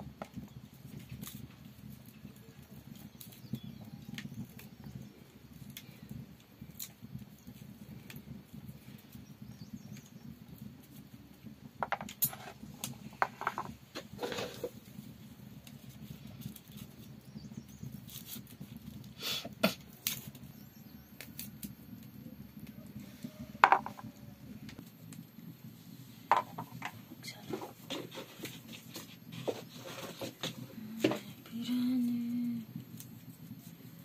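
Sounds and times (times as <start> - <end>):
dry garlic skins crackling: 0.1 - 25.3, 26.2 - 34.0.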